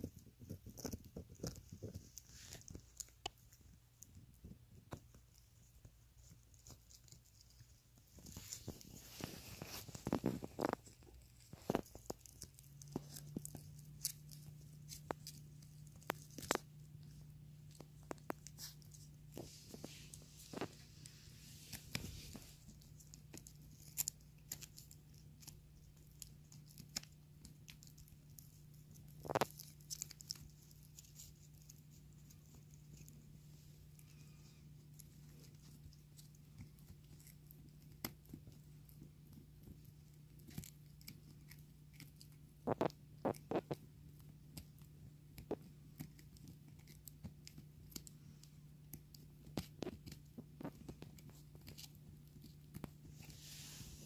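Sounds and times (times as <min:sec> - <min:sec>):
puppy gnawing a chew: 0:00.0 - 0:53.4.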